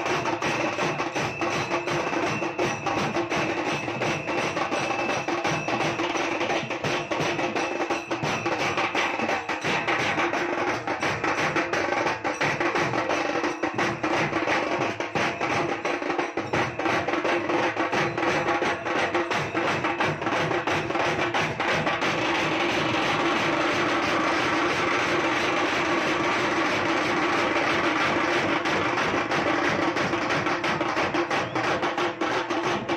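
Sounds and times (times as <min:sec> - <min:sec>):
drum band beating fast rhythm: 0:00.0 - 0:32.9.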